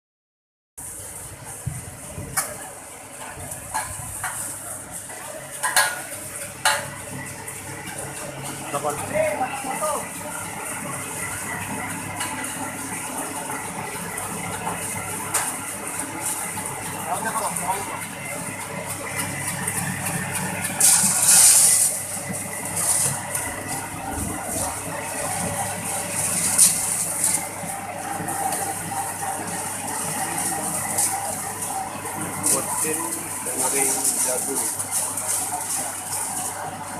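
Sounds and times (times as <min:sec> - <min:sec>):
grain dryer running: 0:00.8 - 0:36.9
machine humming: 0:06.2 - 0:36.9.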